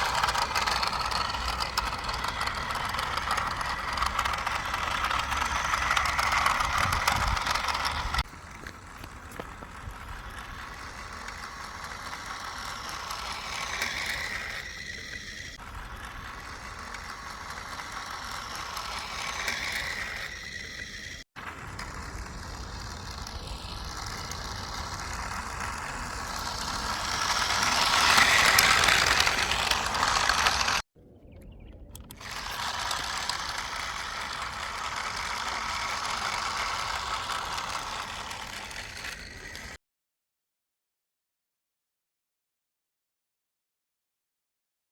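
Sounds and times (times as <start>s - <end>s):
toy train motor whirring: 0.0s - 30.8s, 31.9s - 39.8s.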